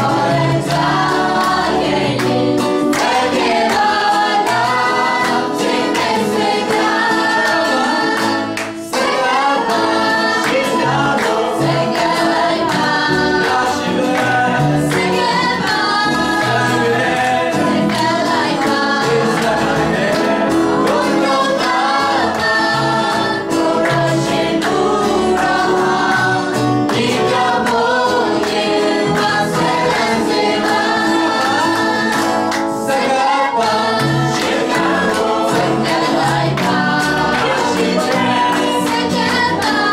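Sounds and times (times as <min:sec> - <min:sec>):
acoustic guitar: 0:00.0 - 0:39.9
group singing through microphones: 0:00.0 - 0:39.9.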